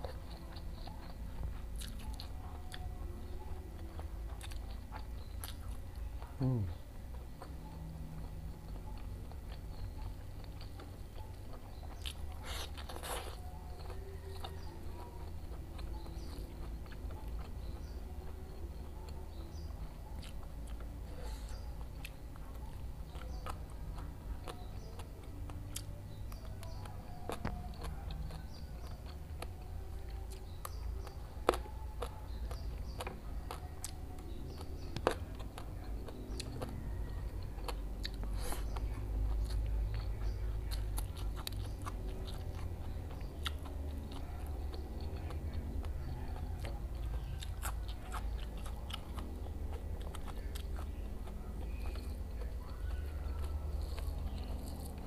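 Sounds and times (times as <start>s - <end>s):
chewing and crunching food: 0.0s - 55.0s
low steady hum: 0.0s - 55.0s.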